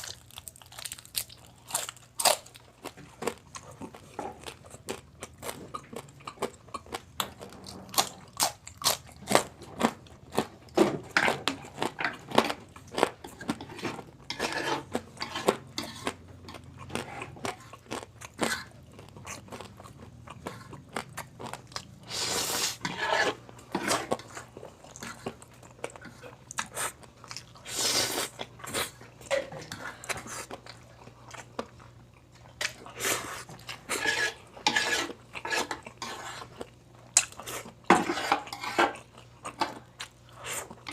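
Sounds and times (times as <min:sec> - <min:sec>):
chewing crispy pork skin: 0:00.0 - 0:22.3, 0:23.4 - 0:40.9.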